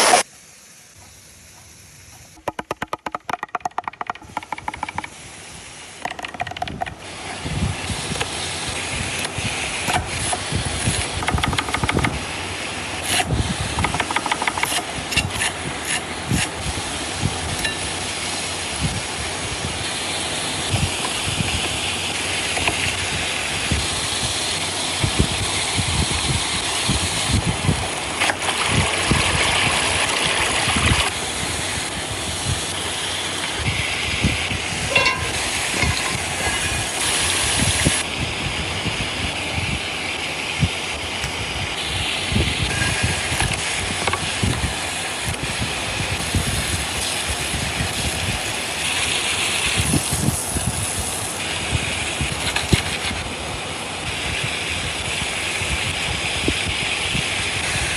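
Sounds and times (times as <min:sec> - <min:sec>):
hissing and crackling: 0:00.0 - 0:57.9.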